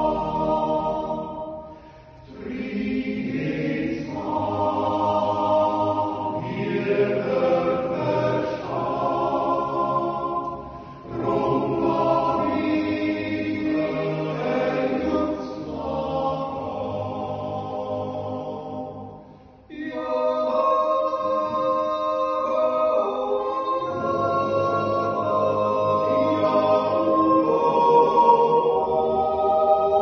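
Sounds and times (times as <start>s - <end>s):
men's choir yodelling a cappella: 0.0s - 30.0s.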